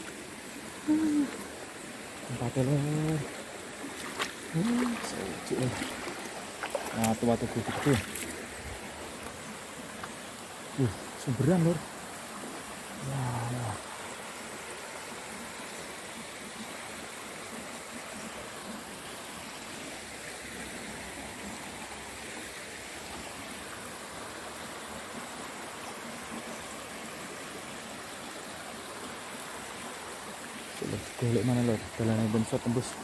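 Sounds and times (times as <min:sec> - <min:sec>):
stream running over stones: 0:00.0 - 0:33.0.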